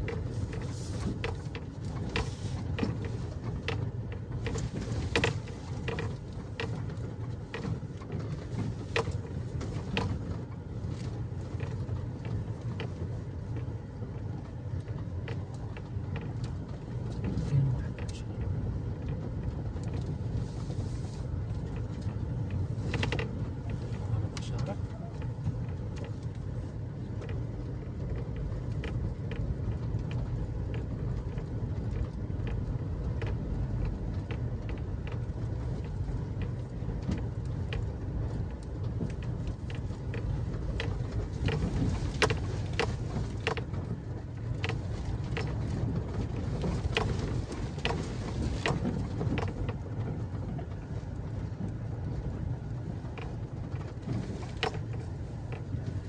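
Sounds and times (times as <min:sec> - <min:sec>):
stones crackling under wheels: 0:00.0 - 0:56.0
truck engine and tyres rumbling: 0:00.0 - 0:56.0.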